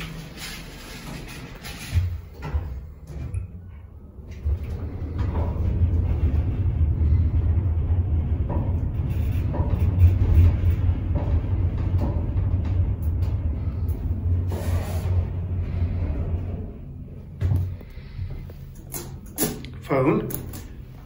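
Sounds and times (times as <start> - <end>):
elevator doors sliding shut: 0.0 - 20.9
elevator car rumbling: 0.0 - 21.0.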